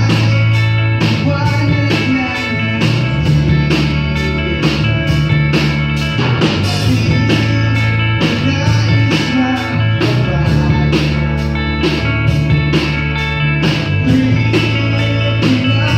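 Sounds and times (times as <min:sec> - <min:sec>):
drums and cymbal hits: 0:00.0 - 0:15.9
electric guitar: 0:00.0 - 0:15.9.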